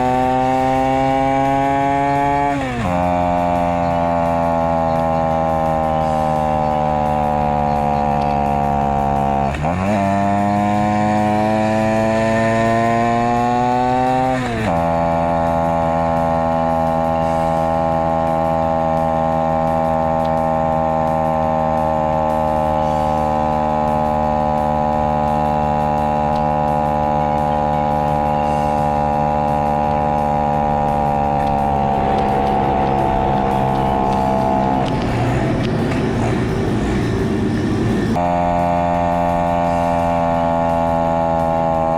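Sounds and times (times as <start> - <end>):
small motorcycle engine under load: 0.0 - 41.9.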